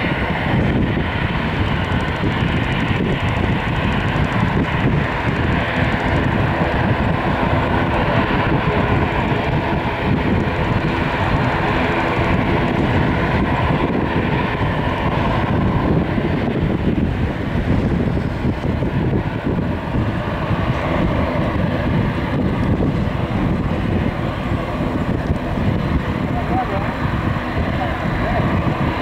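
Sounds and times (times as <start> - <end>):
jet engines humming: 0.0 - 29.0
wind buffeting microphone: 0.0 - 29.0.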